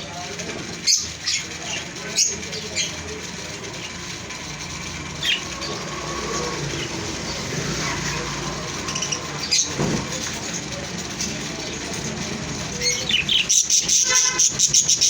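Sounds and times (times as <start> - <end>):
parrots chirping: 0.7 - 15.0.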